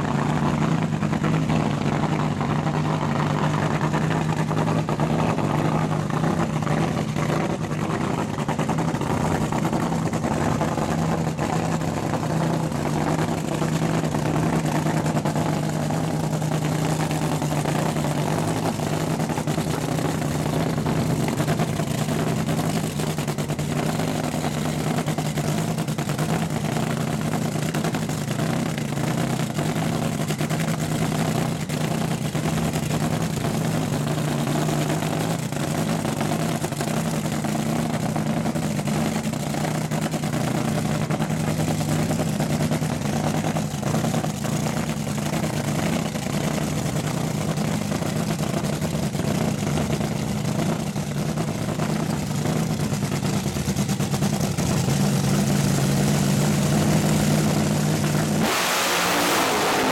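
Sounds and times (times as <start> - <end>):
dragster engine idling: 0.0 - 58.4.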